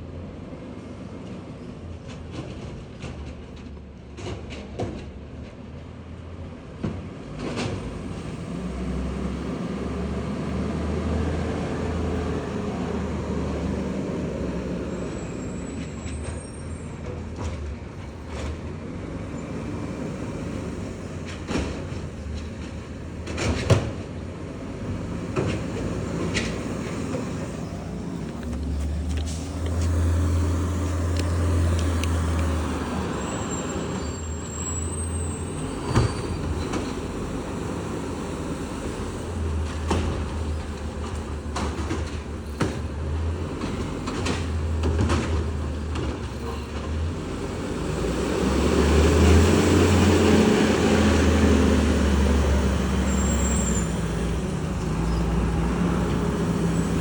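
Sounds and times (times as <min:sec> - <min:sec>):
garbage truck engine revving: 0:07.4 - 0:57.0.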